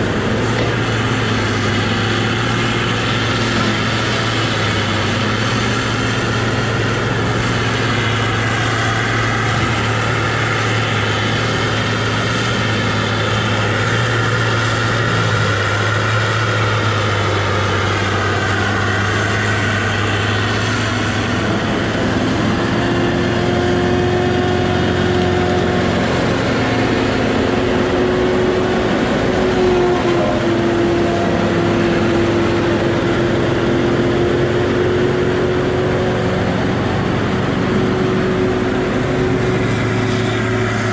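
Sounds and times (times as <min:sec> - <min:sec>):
diesel engine under load: 0:00.0 - 0:40.9
steady whine: 0:00.0 - 0:40.9.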